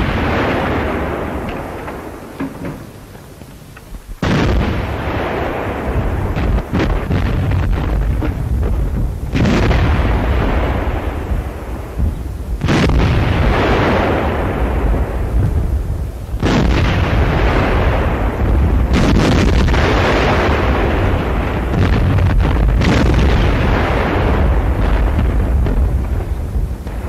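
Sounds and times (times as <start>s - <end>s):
artillery blasts rumbling: 0.0s - 27.0s.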